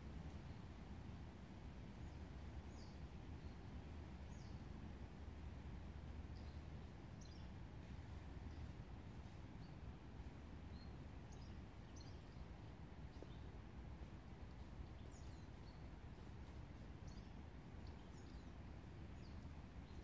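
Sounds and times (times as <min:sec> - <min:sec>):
woodland birds chirping: 0:02.0 - 0:04.9, 0:06.2 - 0:20.0.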